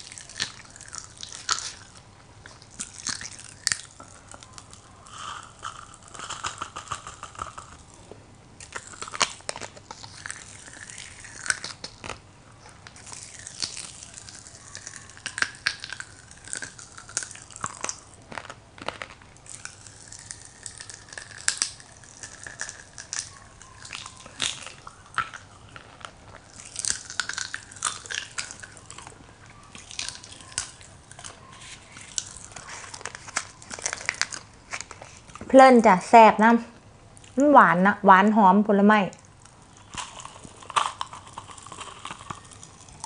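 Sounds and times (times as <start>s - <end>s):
popping candy crackling: 0.0s - 43.0s.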